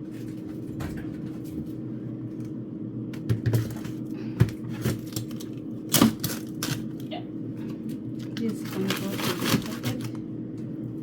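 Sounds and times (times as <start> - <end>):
freezer low hum: 0.0 - 11.0.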